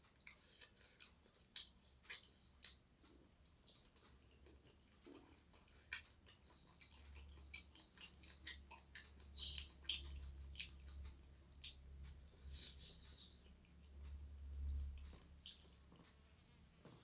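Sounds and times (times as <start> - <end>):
chewing: 0.0 - 17.0
faint low hum: 0.0 - 17.0.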